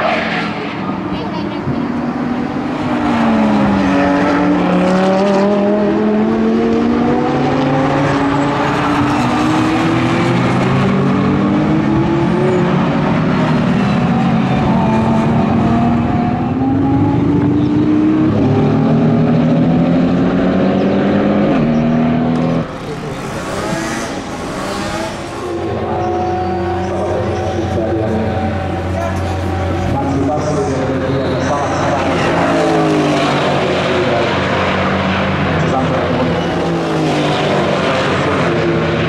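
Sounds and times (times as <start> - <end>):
race cars accelerating: 0.0 - 39.0.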